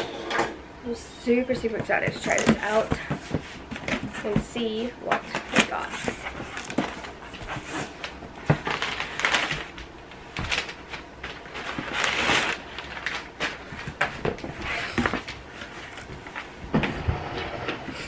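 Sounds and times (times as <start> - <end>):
paper rustling and crinkling: 1.7 - 17.0.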